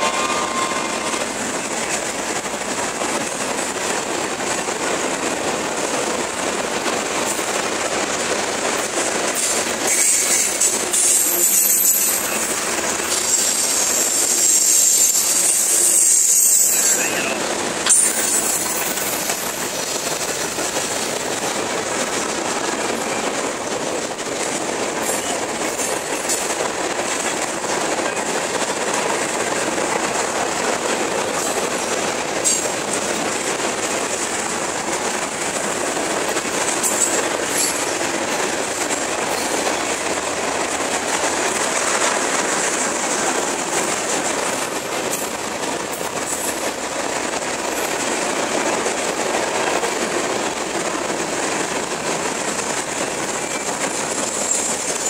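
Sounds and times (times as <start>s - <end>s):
train wheels rumbling and rattling: 0.0s - 55.0s.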